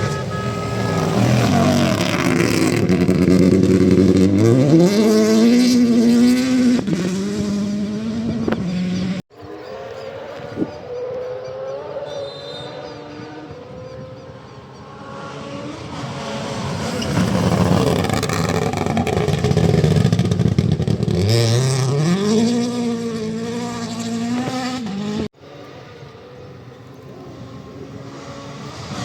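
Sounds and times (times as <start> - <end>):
rally car passing at speed: 0.0 - 29.0.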